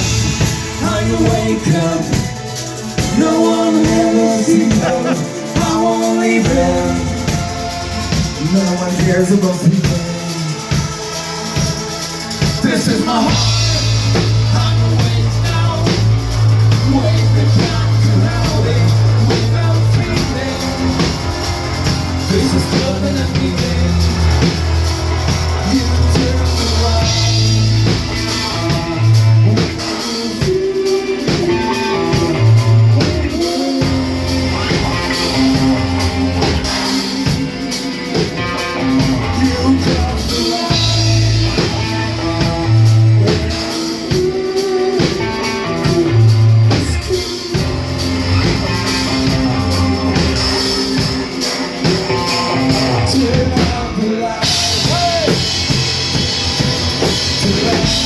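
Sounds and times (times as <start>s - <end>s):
cymbals: 0.0s - 58.0s
rock band playing live: 0.0s - 58.0s.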